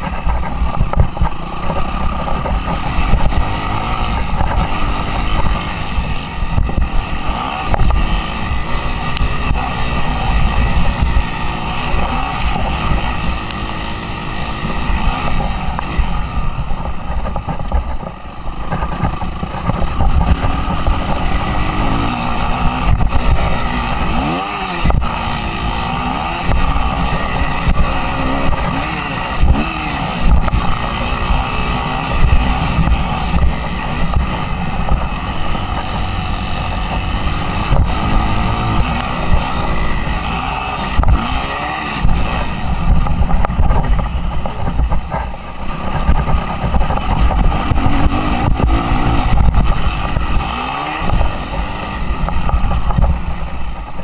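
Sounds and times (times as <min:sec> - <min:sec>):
motocross bike engine revving: 0:00.0 - 0:54.0
wind buffeting microphone: 0:00.0 - 0:54.0.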